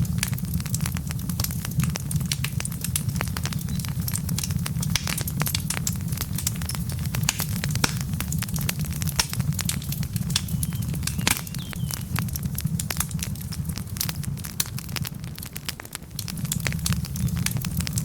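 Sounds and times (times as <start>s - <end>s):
logs crackling and popping: 0.0s - 18.0s
low rumble of fire: 0.0s - 18.0s.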